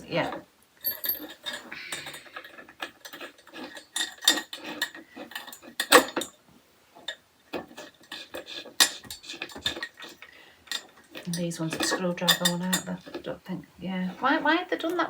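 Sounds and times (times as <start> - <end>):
metal screws and parts clinking: 0.1 - 6.4, 7.0 - 13.2.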